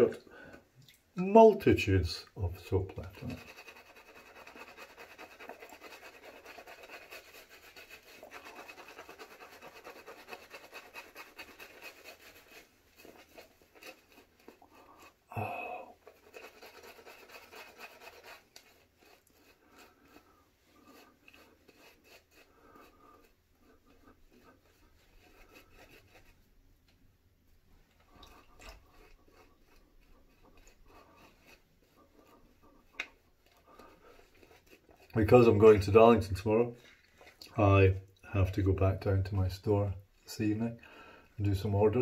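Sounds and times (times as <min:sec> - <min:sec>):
shaving brush scratching on face: 0:01.6 - 0:26.6, 0:27.9 - 0:40.8, 0:41.4 - 0:42.0.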